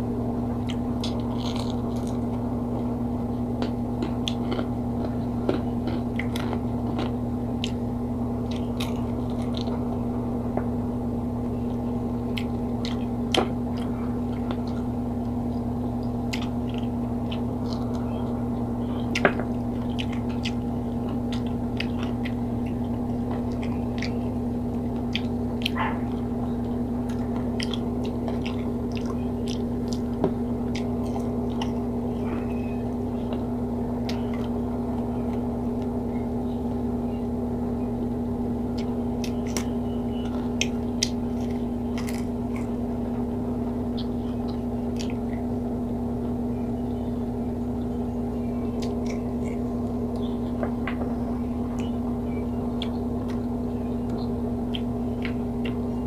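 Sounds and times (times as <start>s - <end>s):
close-up chewing: 0.0s - 56.0s
low electrical hum: 0.0s - 56.0s
small crunches: 0.4s - 56.0s.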